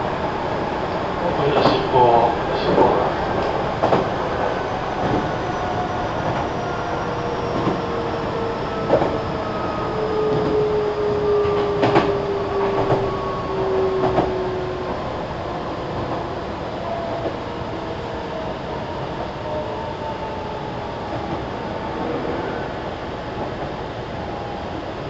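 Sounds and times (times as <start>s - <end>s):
train rumble and hiss: 0.0s - 25.0s.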